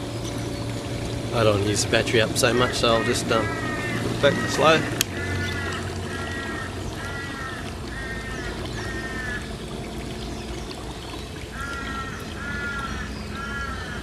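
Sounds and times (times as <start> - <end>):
electric motor humming: 0.0 - 13.7
water noise: 0.0 - 14.0
bird calling: 2.0 - 14.0.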